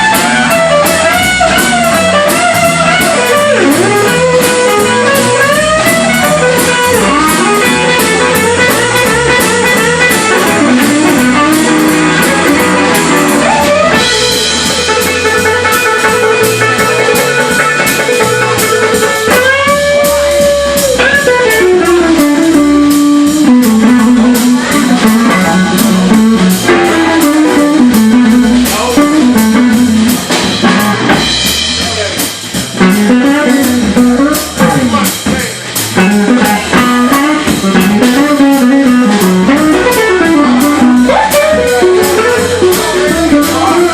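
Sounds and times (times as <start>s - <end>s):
drums and rhythm backing: 0.0s - 43.9s
electric guitar lead with bent notes: 0.0s - 43.9s.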